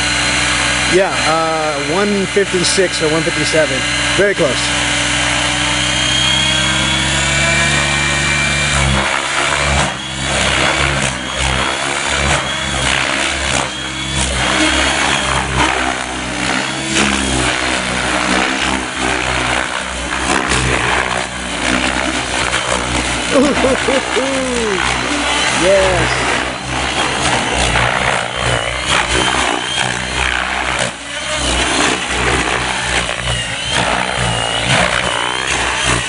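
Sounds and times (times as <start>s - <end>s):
helicopter rotor and motor hum: 0.0s - 36.0s.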